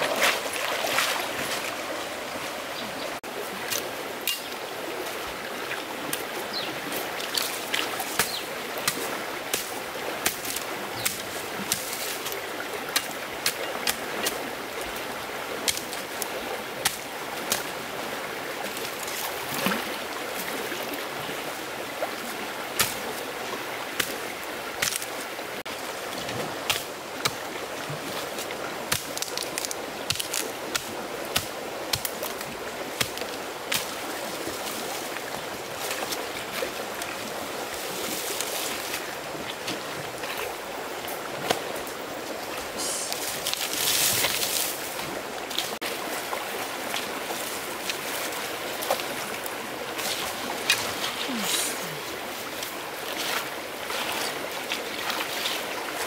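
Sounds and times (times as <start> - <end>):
water running in stream: 0.0 - 56.0.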